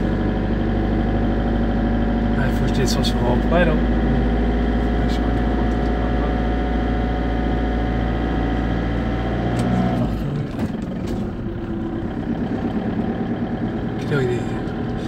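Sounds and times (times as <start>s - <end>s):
engine hum inside vehicle: 0.0s - 15.0s
road noise: 0.0s - 15.0s.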